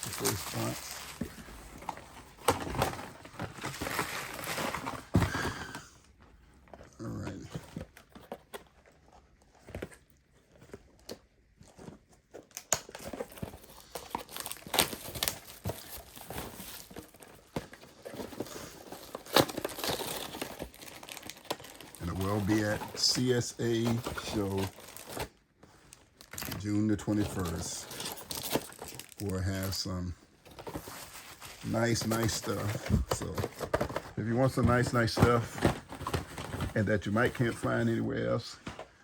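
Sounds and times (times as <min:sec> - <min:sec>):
plastic wrapping crinkling and tearing: 0:00.0 - 0:05.1, 0:10.6 - 0:38.5.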